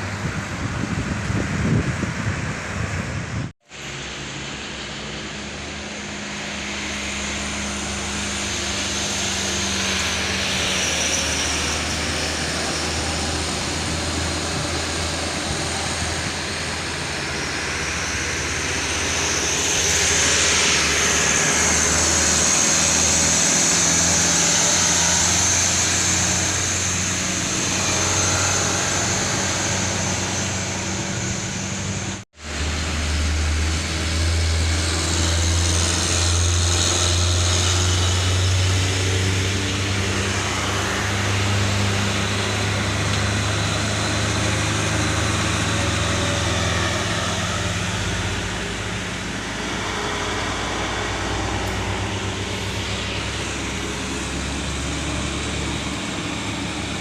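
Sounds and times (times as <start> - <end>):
road and traffic noise: 0.0 - 57.0
truck engine low hum: 0.0 - 57.0.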